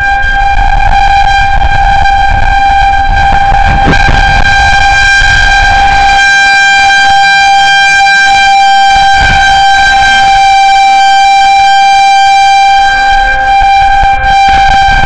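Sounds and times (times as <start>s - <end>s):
outdoor warning siren steady tone: 0.0s - 15.0s.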